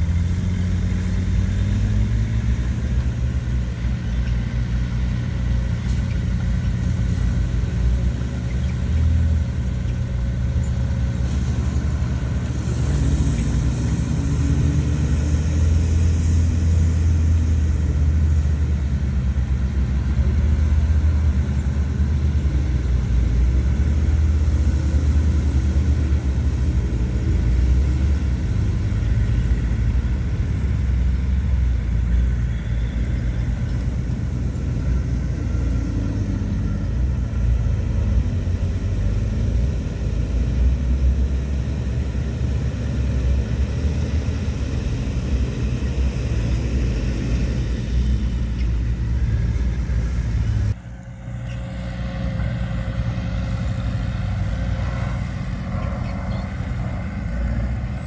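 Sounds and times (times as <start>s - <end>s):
different engine running: 0.0s - 58.0s
heavy machinery diesel engines rumbling: 0.0s - 58.0s.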